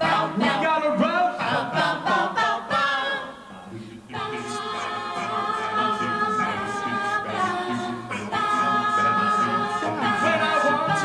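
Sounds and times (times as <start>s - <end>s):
group singing in harmony: 0.0s - 11.0s.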